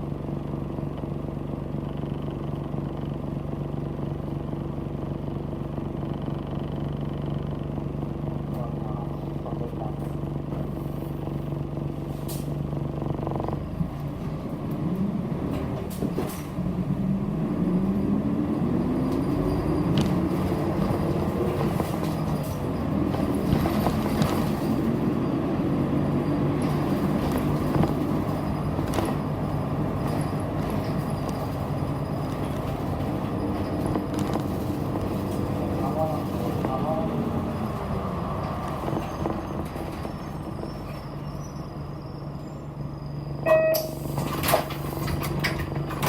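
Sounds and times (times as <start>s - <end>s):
bus engine: 0.0s - 46.0s
road noise: 0.0s - 46.0s.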